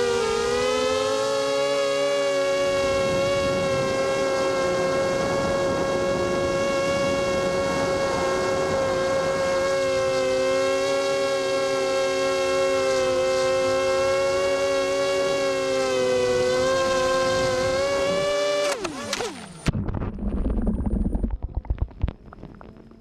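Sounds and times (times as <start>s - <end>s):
quadcopter motors whining: 0.0s - 19.7s.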